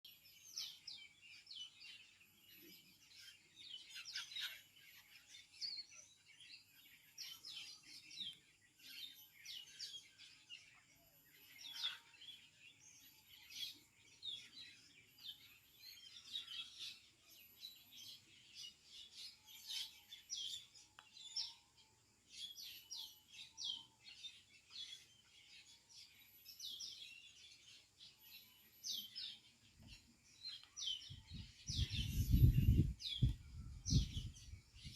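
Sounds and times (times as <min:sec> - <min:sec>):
flock of birds chirping: 0:00.0 - 0:34.9.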